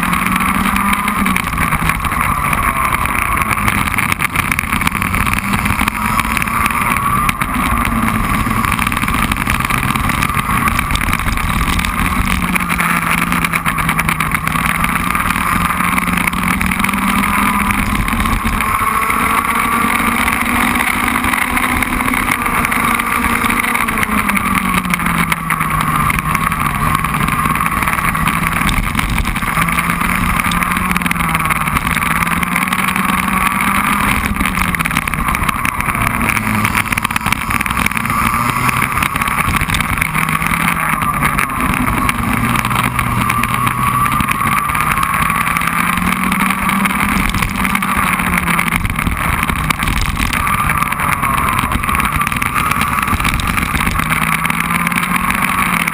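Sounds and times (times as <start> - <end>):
kart engine revving: 0.0 - 55.9.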